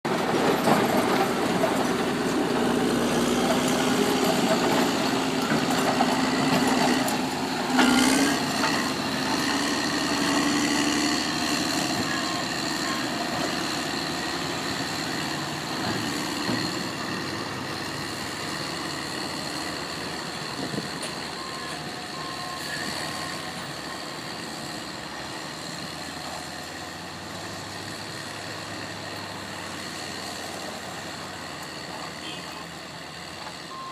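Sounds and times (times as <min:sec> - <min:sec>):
heavy machinery diesel engines: 0:00.0 - 0:33.9.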